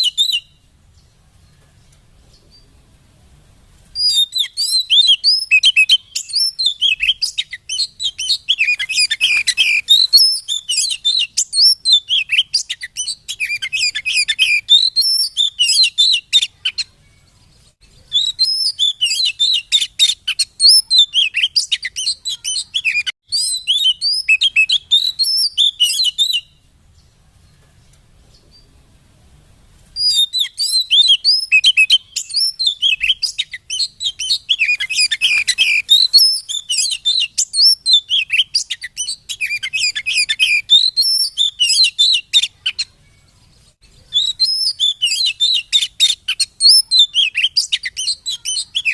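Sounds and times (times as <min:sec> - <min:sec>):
bird singing chirps and whistles: 0:00.0 - 0:01.1, 0:04.0 - 0:27.1, 0:30.0 - 0:48.9.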